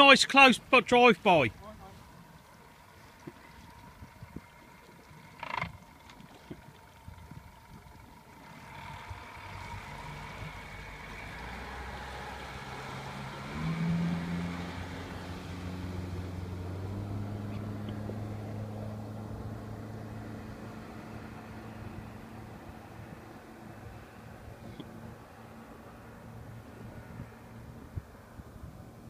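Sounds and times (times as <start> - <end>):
outboard motor revving: 1.0 - 29.0.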